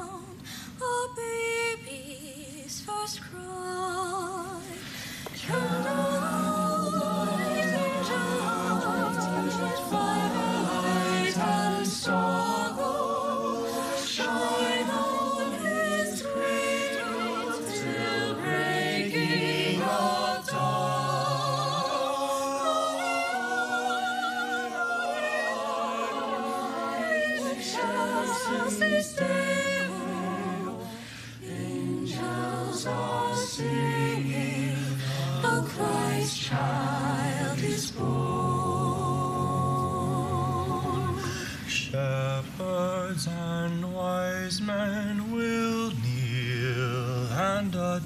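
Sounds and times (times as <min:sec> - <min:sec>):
children's choir singing a cappella: 0:03.7 - 0:48.0.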